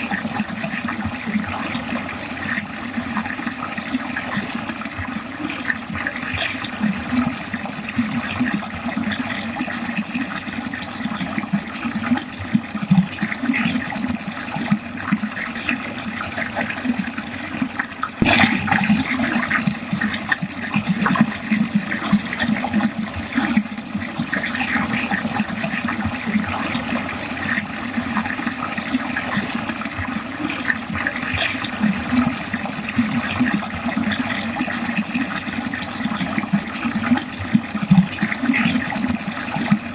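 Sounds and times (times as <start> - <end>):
water gurgling down a drain: 0.0 - 39.9.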